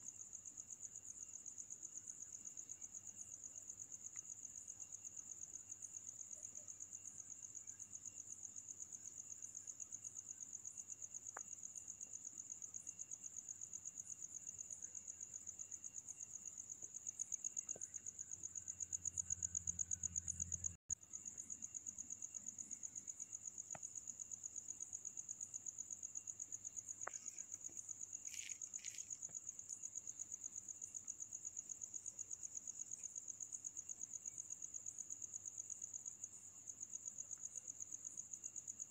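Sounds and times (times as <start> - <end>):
high-pitched insect trill: 0.1 - 38.8.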